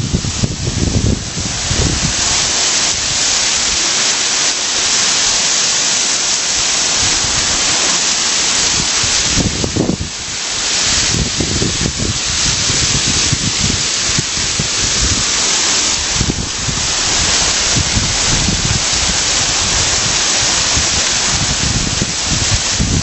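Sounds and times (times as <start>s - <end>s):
small waterfall splashing: 0.0s - 23.0s
wind rumbling on microphone: 0.0s - 23.0s.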